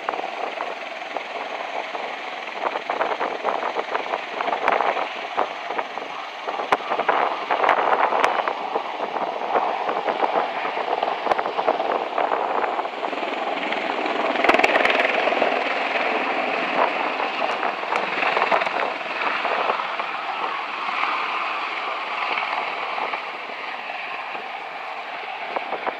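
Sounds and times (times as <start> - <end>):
tiltrotor aircraft engine roar: 0.0 - 25.9.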